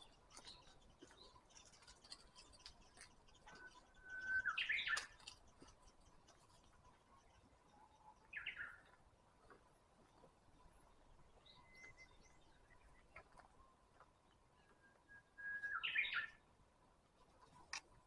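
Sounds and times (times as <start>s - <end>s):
birds chirping: 0.0s - 16.5s.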